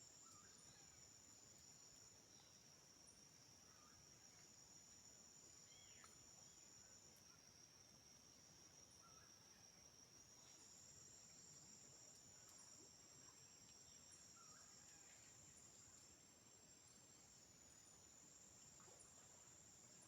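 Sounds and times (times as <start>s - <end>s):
insect drone: 0.0s - 20.0s
short insect chirps: 0.0s - 20.0s.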